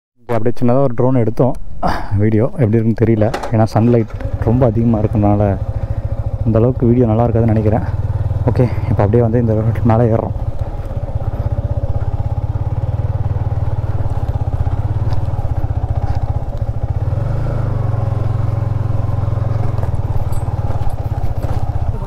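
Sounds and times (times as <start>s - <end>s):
motorcycle engine running: 3.0s - 22.0s.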